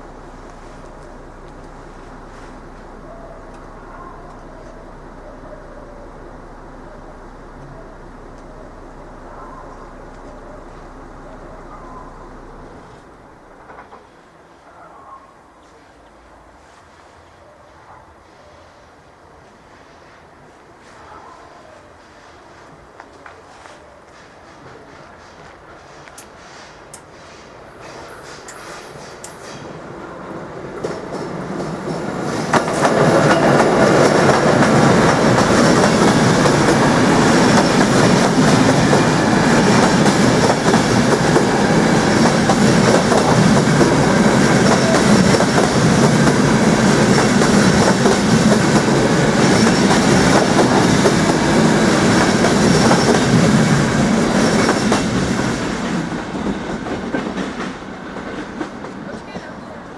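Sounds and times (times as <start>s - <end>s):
train wheels on rails: 0.0s - 14.4s, 19.3s - 59.9s.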